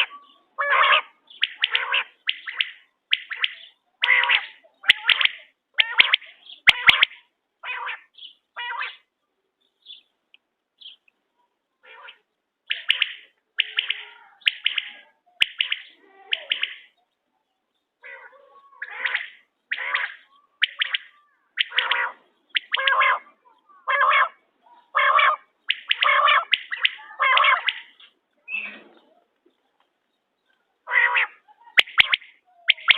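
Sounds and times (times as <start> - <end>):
quail calling harsh notes: 0.0 - 9.1, 11.8 - 17.0, 18.0 - 29.1, 30.8 - 32.9.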